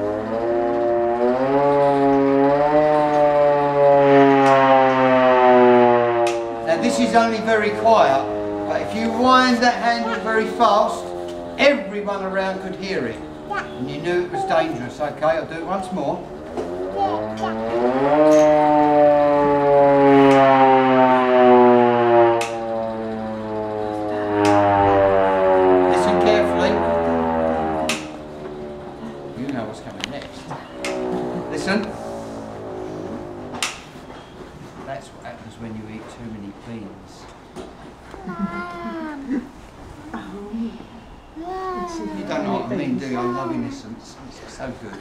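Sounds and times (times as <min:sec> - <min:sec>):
hand-cranked air raid siren wailing: 0:00.0 - 0:45.0.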